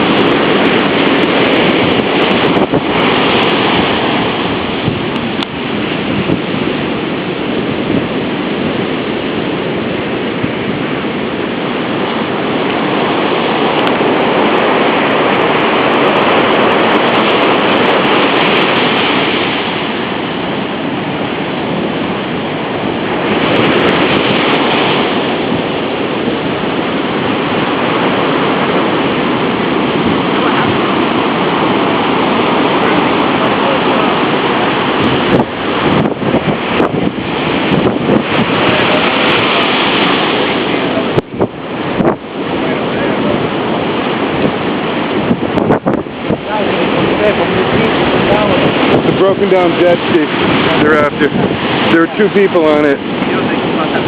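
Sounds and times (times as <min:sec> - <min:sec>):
surf breaking: 0:00.0 - 0:54.0
wind buffeting microphone: 0:00.0 - 0:54.0.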